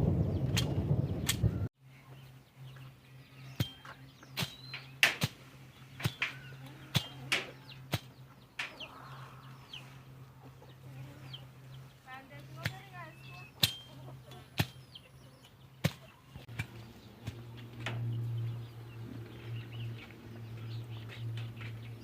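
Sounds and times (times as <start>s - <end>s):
chickens clucking: 3.6s - 22.0s.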